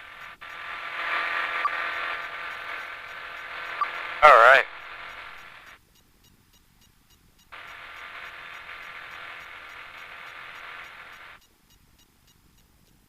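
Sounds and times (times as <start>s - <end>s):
headset static hiss: 0.0s - 13.0s.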